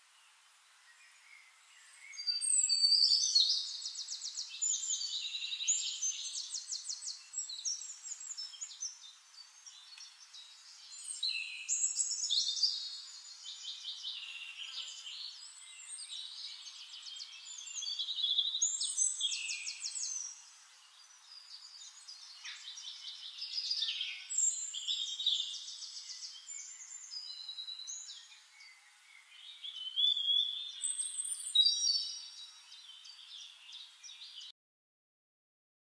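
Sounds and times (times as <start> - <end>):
songbirds singing: 0.0 - 34.5.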